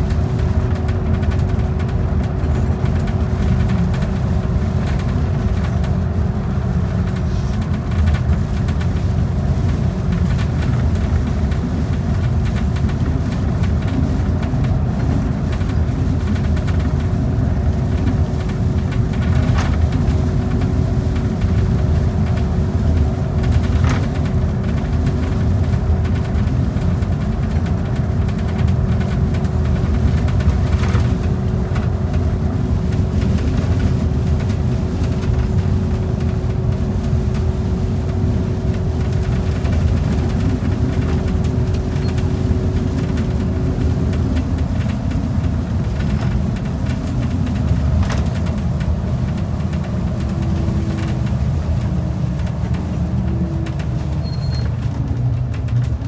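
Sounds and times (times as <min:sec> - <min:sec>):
bus engine and tyres rumbling: 0:00.0 - 0:56.0.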